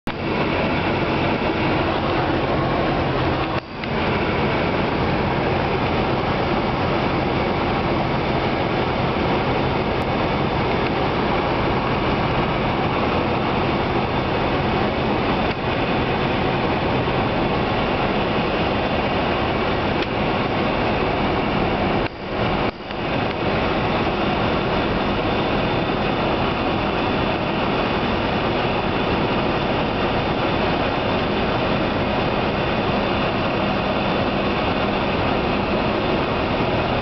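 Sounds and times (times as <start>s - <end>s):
aircraft cabin engine drone: 0.1s - 37.0s.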